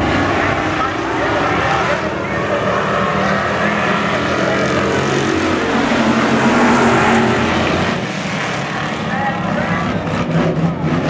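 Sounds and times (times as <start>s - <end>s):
stock car engines racing: 0.0s - 11.0s.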